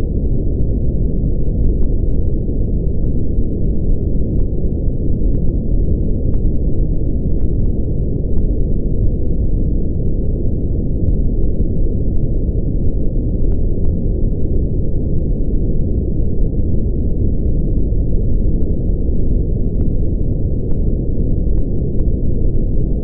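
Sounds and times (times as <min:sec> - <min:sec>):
brown noise rumble: 0:00.0 - 0:23.0.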